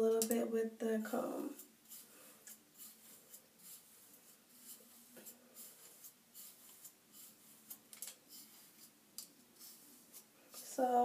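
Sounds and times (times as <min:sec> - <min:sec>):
comb scratching through hair: 0:01.2 - 0:11.0.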